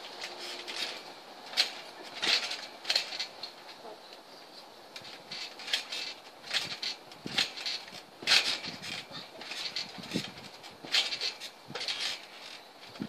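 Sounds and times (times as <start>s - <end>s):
trampoline springs squeaking: 0.0s - 13.0s.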